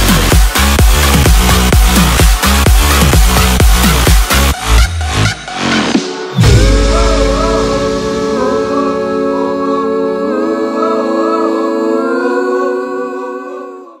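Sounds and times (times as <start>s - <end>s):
background music held chords: 0.0s - 12.9s.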